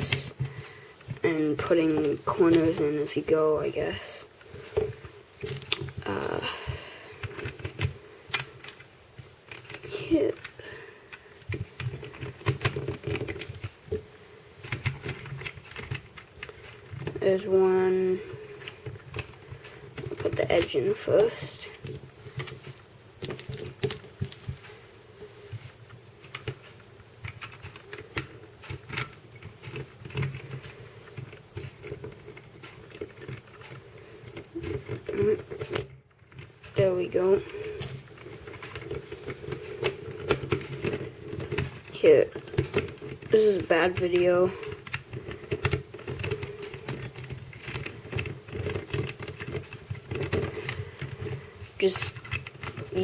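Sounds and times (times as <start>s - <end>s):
plastic puzzle pieces clicking: 4.0s - 17.2s, 18.4s - 24.7s, 25.6s - 53.0s.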